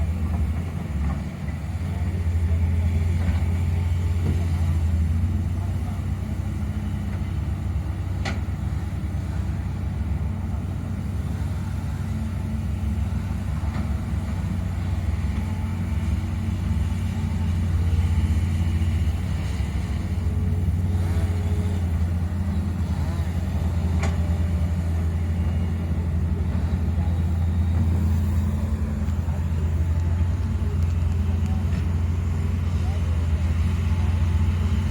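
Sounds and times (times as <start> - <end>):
heavy machine engine droning: 0.0 - 34.9.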